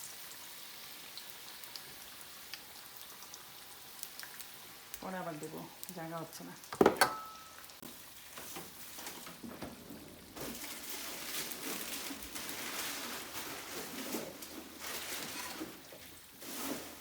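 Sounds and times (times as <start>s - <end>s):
deep-frying sizzle and crackle: 0.0s - 17.0s.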